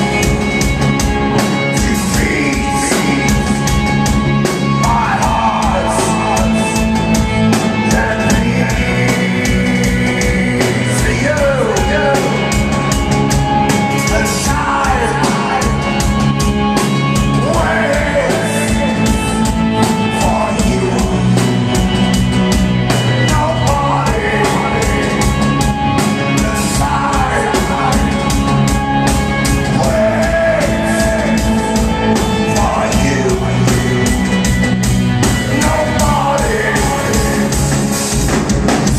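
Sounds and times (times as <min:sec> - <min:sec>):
person singing lead vocals: 0:00.0 - 0:13.2, 0:14.0 - 0:22.2, 0:22.9 - 0:38.9
drum kit: 0:00.0 - 0:38.9
electric guitars: 0:00.0 - 0:38.9.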